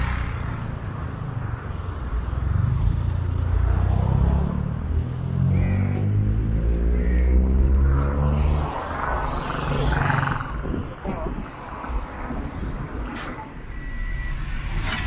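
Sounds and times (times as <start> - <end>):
cars passing close by: 0.0 - 15.0.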